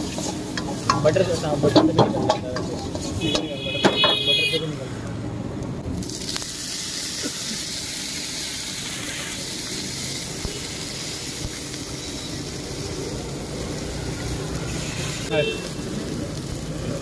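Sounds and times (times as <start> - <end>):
water sizzling in hot wok: 0.0 - 3.6, 5.9 - 17.0
gas burner rumble: 0.0 - 4.6, 5.8 - 17.0.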